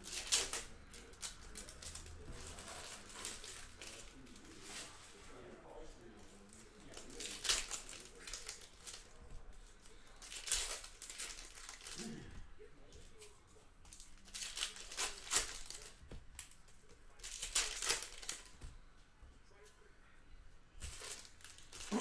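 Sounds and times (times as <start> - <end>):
wrappers crinkling and tearing: 0.0 - 5.2, 6.1 - 12.3, 12.9 - 18.7, 20.7 - 22.0.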